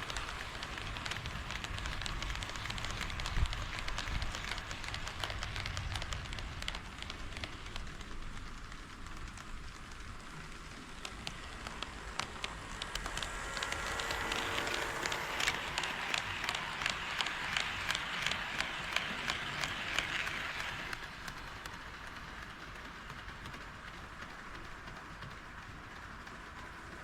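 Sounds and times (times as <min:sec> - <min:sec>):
model train whirring rumble: 0:00.0 - 0:27.0
wheels clicking over rail joints: 0:00.0 - 0:27.0.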